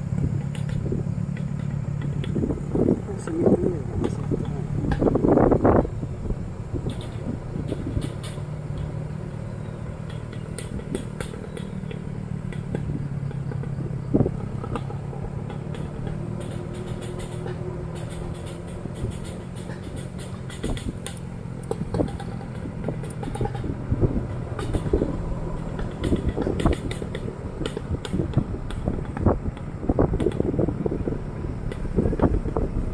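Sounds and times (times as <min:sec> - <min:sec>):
knocks and rattles: 0:00.0 - 0:32.9
motorcycle engine running: 0:00.0 - 0:32.9.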